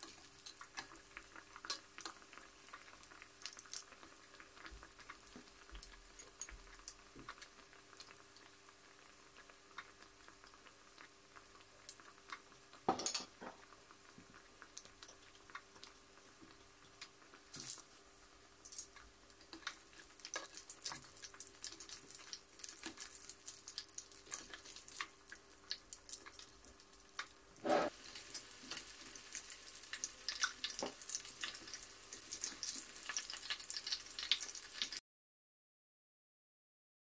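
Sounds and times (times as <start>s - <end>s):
chicken nuggets frying in oil: 0.0s - 35.0s.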